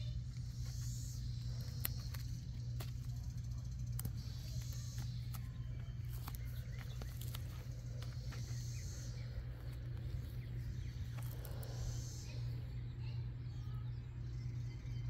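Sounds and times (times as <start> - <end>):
footsteps on wood-chip mulch: 0.0 - 12.5
faint bird chirps: 0.0 - 15.0
steady low hum: 0.0 - 15.0.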